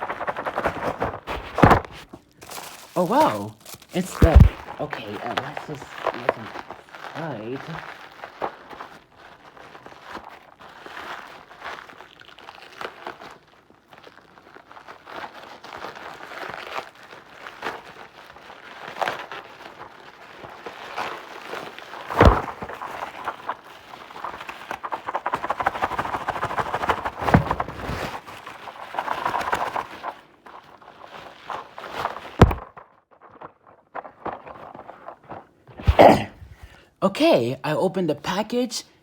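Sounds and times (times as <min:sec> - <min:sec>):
packaging rustling and scraping: 0:00.0 - 0:36.8.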